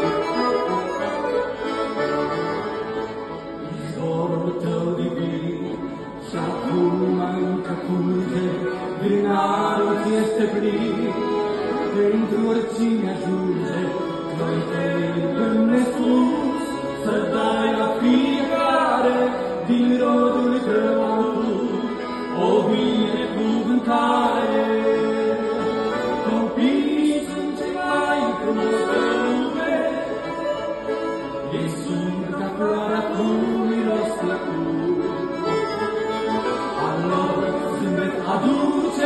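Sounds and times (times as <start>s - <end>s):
piano accordion: 0.0s - 39.0s
men singing a hymn: 3.6s - 30.3s, 31.5s - 35.6s, 36.4s - 39.0s.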